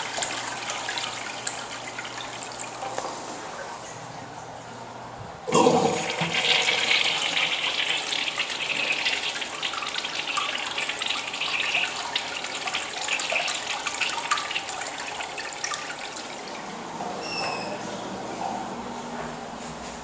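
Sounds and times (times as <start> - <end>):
urinal flushing: 0.0 - 4.7, 5.4 - 17.8.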